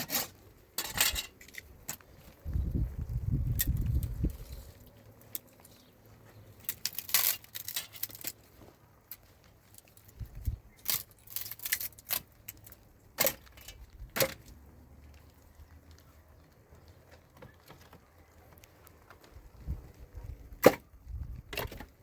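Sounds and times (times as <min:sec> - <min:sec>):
crinkly rustling: 0:00.0 - 0:22.0.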